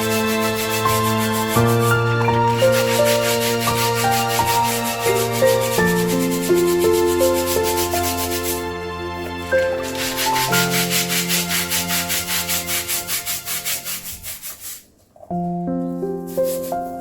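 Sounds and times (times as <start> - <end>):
stiff brush scrubbing: 0.0 - 15.5.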